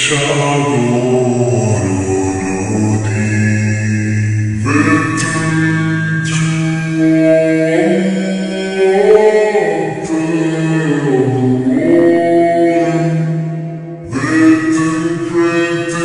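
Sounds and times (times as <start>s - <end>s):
male voices singing a cappella: 0.0s - 13.2s, 14.1s - 16.0s.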